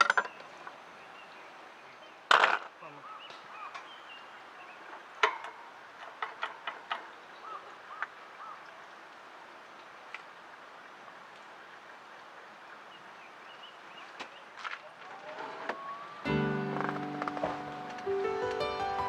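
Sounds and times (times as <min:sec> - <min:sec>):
steady faint hiss: 0:02.9 - 0:19.0.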